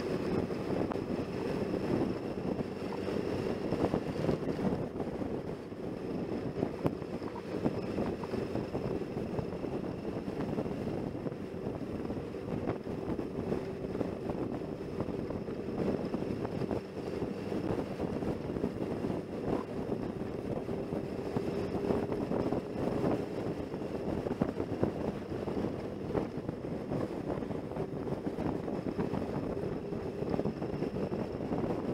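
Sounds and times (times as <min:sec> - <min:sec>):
motorcycle engine running: 0:00.0 - 0:31.9
wind across microphone: 0:00.0 - 0:31.9.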